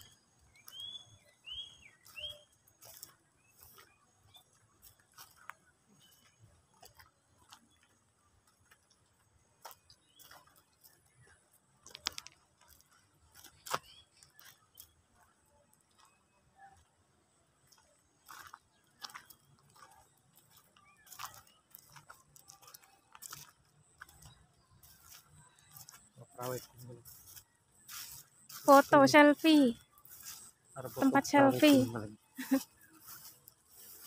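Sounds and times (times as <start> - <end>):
bird chirping: 0.0 - 8.1, 9.1 - 12.3, 13.3 - 15.1, 17.9 - 34.0
footsteps on leaves and dirt: 0.0 - 34.0.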